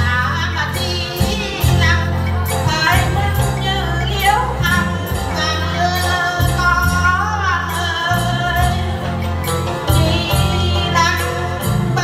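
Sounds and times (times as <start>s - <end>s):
plucked lute: 0.0s - 12.0s
women singing folk song: 0.0s - 12.0s.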